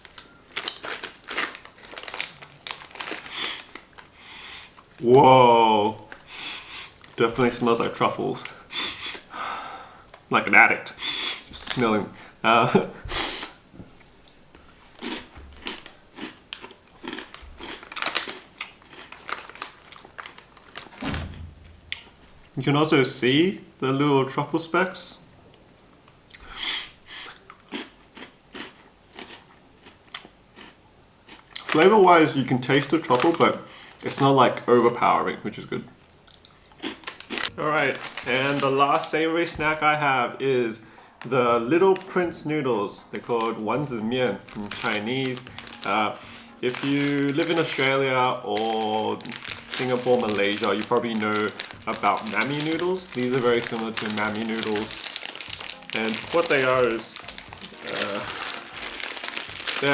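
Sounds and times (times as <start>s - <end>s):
plastic chip bag crinkling: 0.0s - 9.3s, 9.9s - 13.6s, 14.3s - 22.6s, 31.3s - 40.2s, 40.9s - 59.9s.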